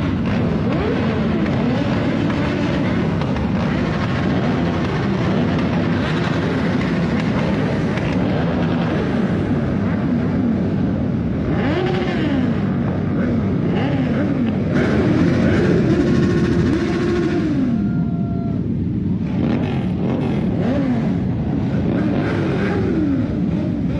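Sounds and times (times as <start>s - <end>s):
motorcycle engine revving: 0.0s - 17.9s, 19.2s - 23.9s.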